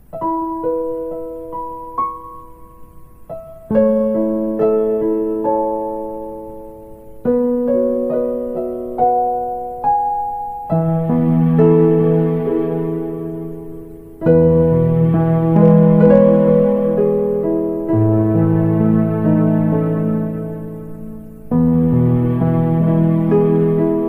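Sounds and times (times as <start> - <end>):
slow solo piano music: 0.0 - 24.0.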